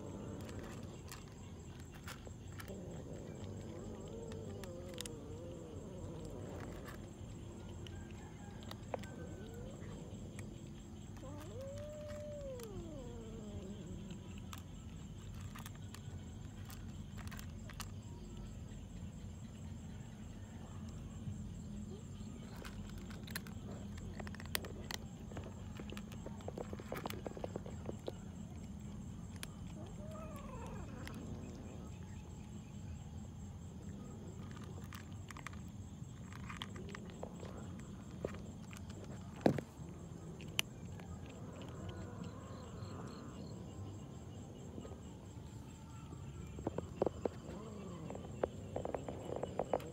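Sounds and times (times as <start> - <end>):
cats crunching dry kibble: 0.0 - 42.8, 44.7 - 49.9
high insect drone: 9.3 - 49.9.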